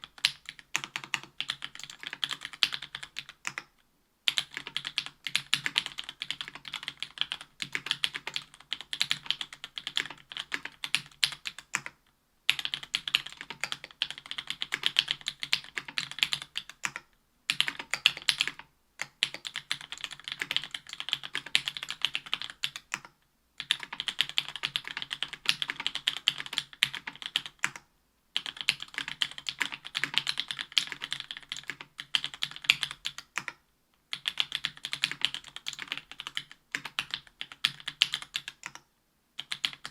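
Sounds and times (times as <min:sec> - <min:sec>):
mechanical keyboard typing: 0:00.0 - 0:03.7, 0:04.3 - 0:38.8, 0:39.4 - 0:39.9.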